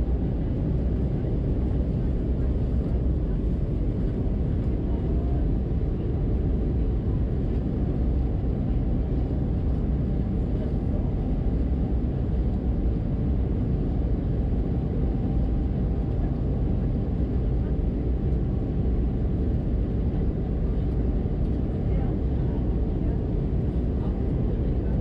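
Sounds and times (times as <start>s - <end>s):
airplane cabin engine drone: 0.0s - 25.0s.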